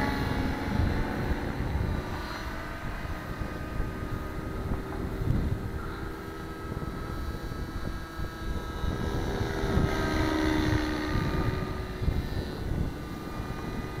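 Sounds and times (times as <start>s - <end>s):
model helicopter engine whine: 0.0s - 14.0s
wind rumbling on microphone: 0.0s - 14.0s.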